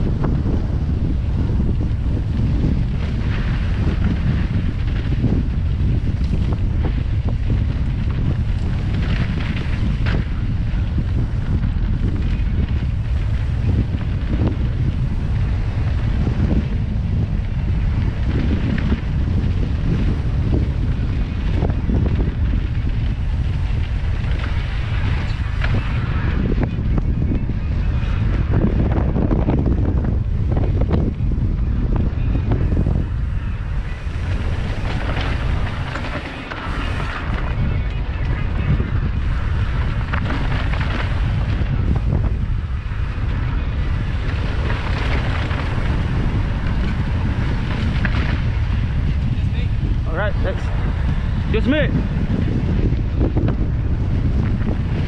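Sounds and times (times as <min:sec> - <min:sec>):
tyre and bike rattle: 0:00.0 - 0:55.0
wind buffeting microphone: 0:00.0 - 0:55.0.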